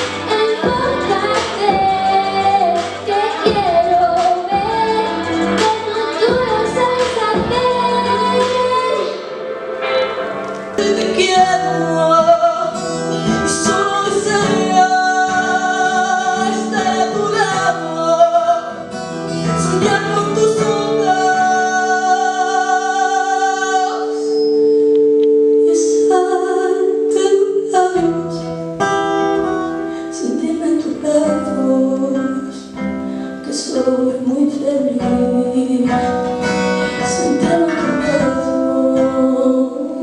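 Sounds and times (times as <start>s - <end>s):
woman singing: 0.0s - 9.3s, 10.8s - 24.4s, 25.5s - 40.0s
guitar accompaniment: 0.0s - 40.0s.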